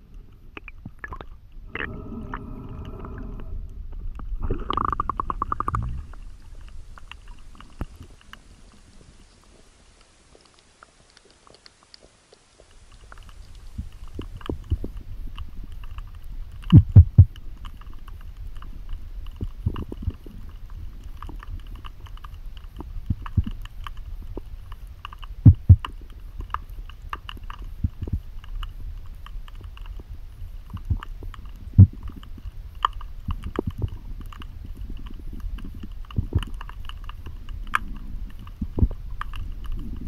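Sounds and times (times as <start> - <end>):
underwater low rumble: 0.0 - 40.0.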